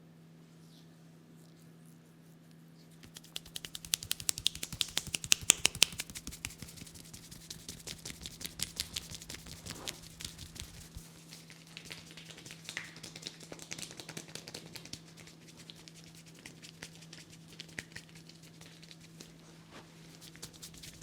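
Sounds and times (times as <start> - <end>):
hands patting and rubbing head: 3.0 - 21.0.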